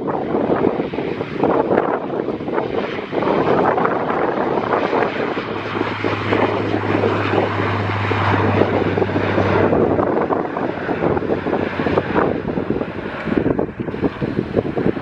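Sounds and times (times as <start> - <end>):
aircraft engine noise: 0.0 - 15.0
wind buffeting microphone: 0.0 - 15.0.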